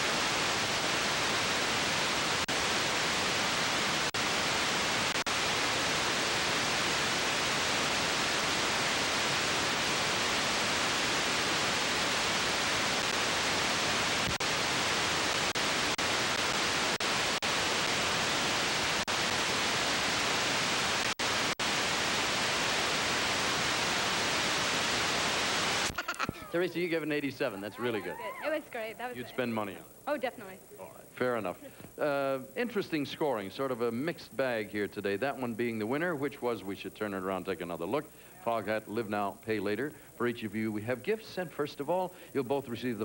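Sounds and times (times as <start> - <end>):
videotape static hiss: 0.0 - 43.0.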